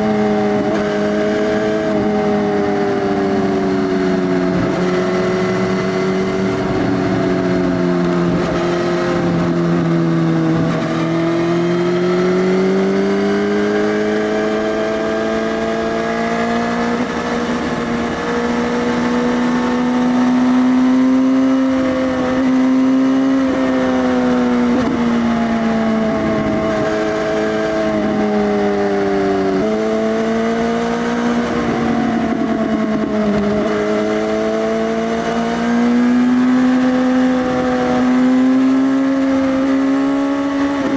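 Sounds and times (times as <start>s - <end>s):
motorcycle engine running loud: 0.0s - 40.9s.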